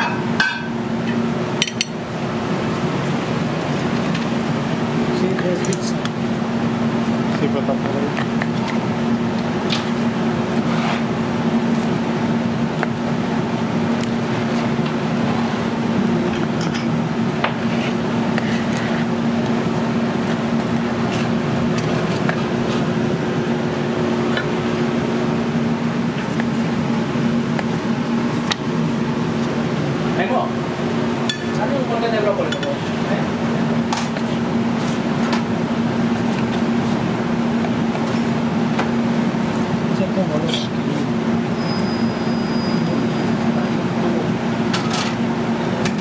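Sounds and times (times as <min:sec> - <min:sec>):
kitchen ventilation hum: 0:00.0 - 0:46.0.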